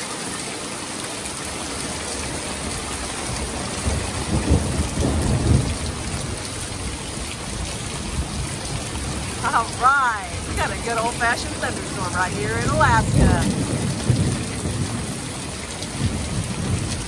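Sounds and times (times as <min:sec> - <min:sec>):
heavy rain on a roof: 0:00.0 - 0:17.0
thunder rumbling: 0:02.0 - 0:17.0.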